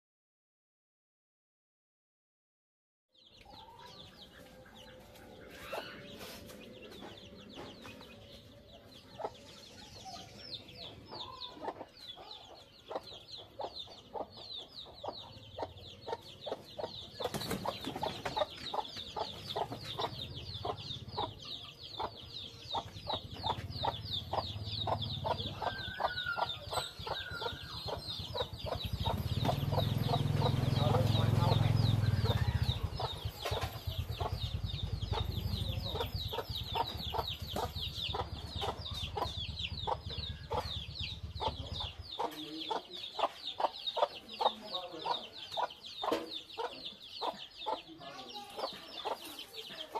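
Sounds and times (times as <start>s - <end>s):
chicks peeping: 3.2s - 49.9s
hen clucking: 3.5s - 49.9s.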